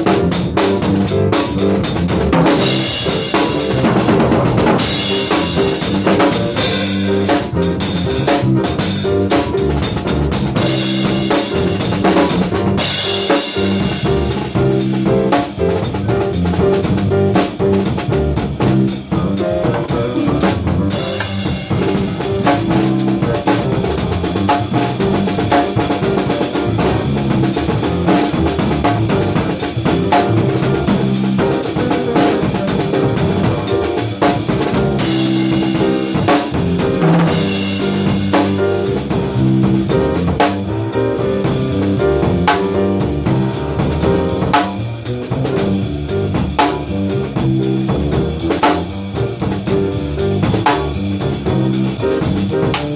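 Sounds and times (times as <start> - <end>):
bass line: 0.0 - 52.9
drum kit syncopated groove: 0.0 - 52.9.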